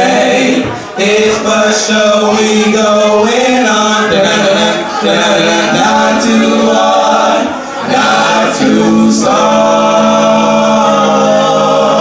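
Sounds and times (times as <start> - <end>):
male vocal group singing harmony: 0.0 - 12.0.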